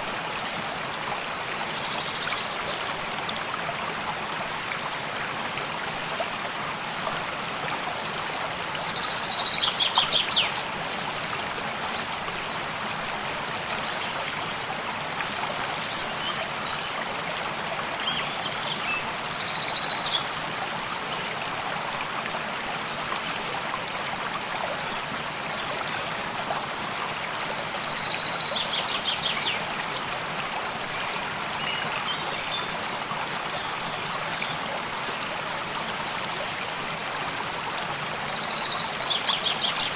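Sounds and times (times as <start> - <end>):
water stream flowing: 0.0 - 39.9.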